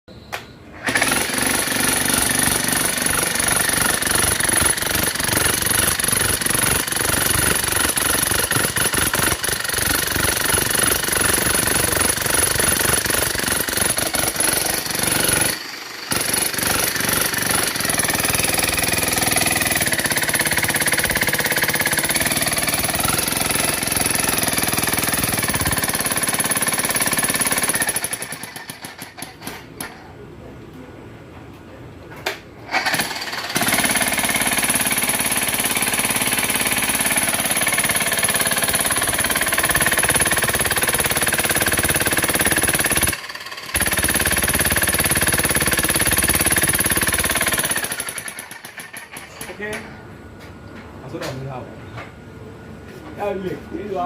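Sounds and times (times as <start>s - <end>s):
demolition hammer hammering: 0.9s - 30.0s, 32.9s - 49.8s.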